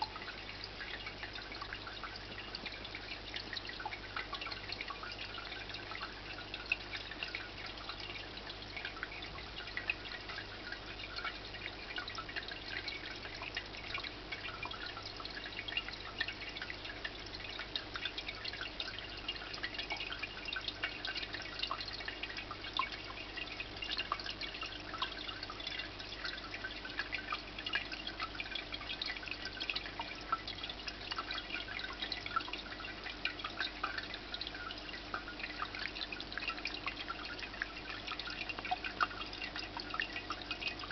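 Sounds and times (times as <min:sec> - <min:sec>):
faint steady hum: 0:00.0 - 0:40.9
water fountain trickling: 0:00.0 - 0:40.9.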